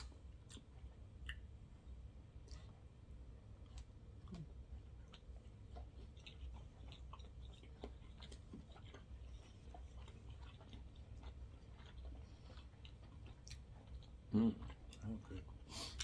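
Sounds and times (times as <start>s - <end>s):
faint chewing: 0.0s - 1.5s, 2.4s - 16.0s.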